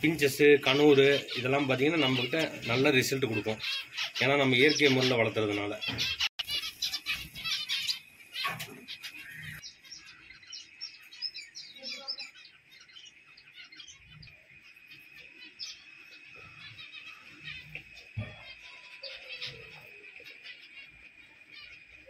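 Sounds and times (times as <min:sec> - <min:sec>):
finches chirping: 0:00.0 - 0:22.0.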